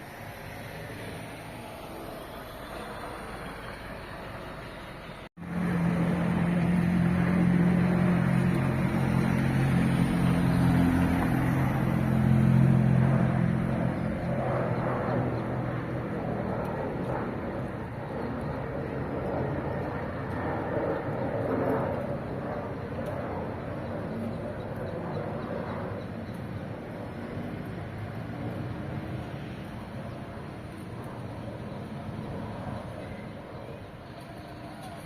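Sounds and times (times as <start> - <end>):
aircraft engines droning: 0.0 - 35.0.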